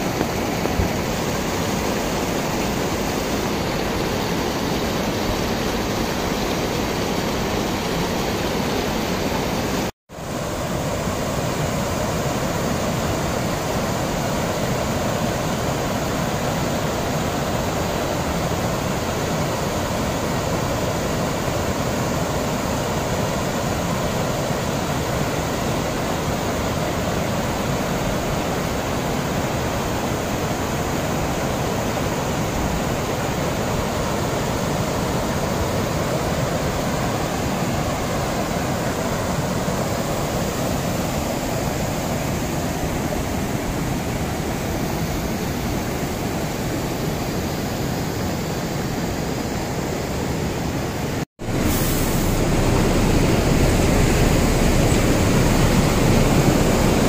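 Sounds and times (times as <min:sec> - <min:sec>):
floodwater rushing in a torrent: 0:00.0 - 0:57.0.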